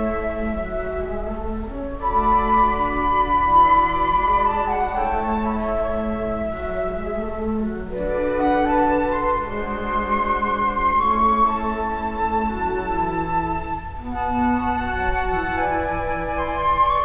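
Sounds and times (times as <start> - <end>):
flute ensemble playing chords: 0.0 - 17.0.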